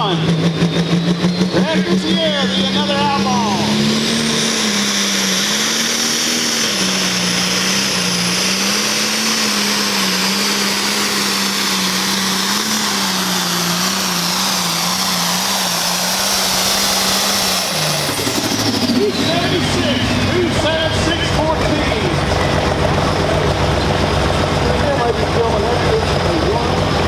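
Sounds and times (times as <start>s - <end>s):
high whine falling in pitch: 0.0s - 23.3s
engine at full throttle under load: 0.0s - 27.0s.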